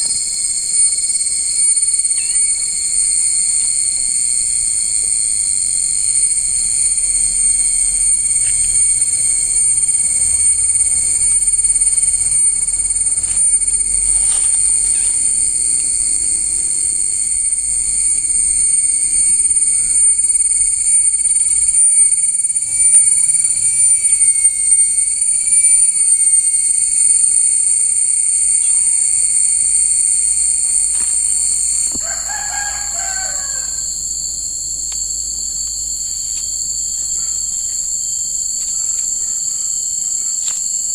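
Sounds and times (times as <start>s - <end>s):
insects shrilling: 0.0s - 40.9s.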